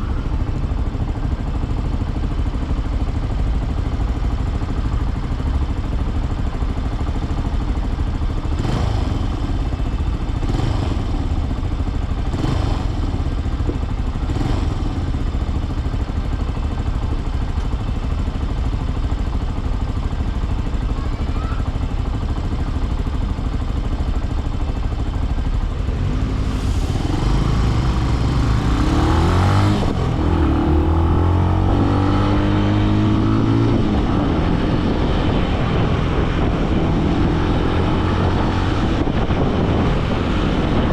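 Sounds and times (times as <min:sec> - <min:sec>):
motorcycle accelerating through gears: 0:00.0 - 0:20.8, 0:22.1 - 0:40.9
motorcycle engine idling: 0:00.0 - 0:36.7.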